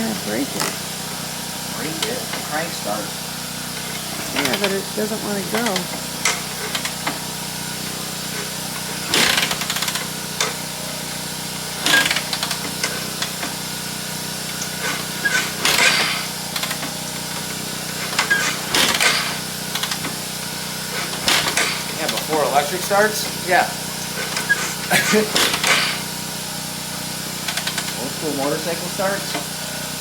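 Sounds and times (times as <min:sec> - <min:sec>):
manual starter rasping: 0:00.0 - 0:30.0.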